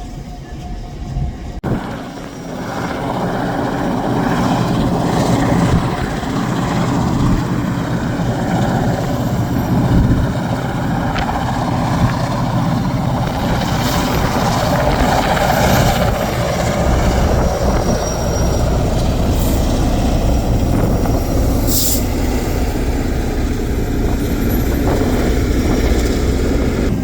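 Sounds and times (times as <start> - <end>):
diesel train rumbling past: 0.0 - 27.0.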